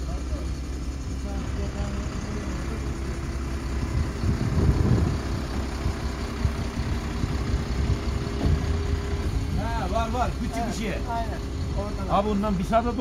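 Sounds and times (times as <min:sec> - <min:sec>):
road sweeper engine drone: 0:00.0 - 0:13.0.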